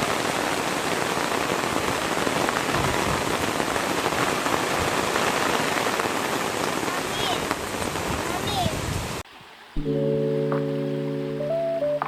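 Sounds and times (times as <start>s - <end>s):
steady hiss of water: 0.0s - 11.3s.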